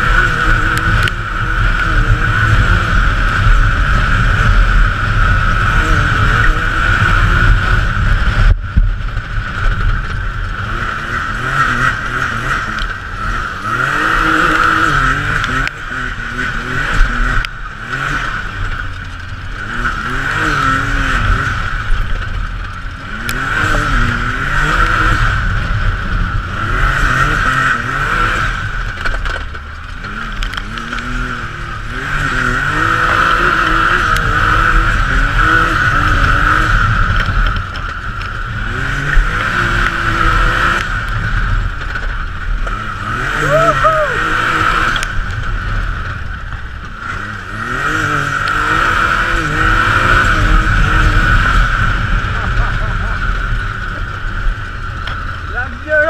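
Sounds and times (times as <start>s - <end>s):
engine revving: 0.0s - 56.0s
high whine: 0.0s - 56.0s.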